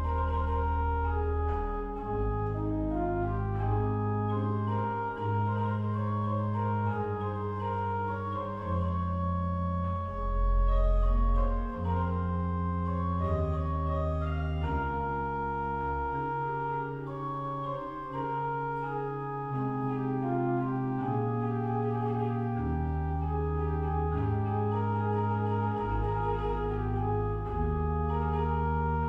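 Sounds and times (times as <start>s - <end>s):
organ playing slow chords: 0.0s - 29.0s.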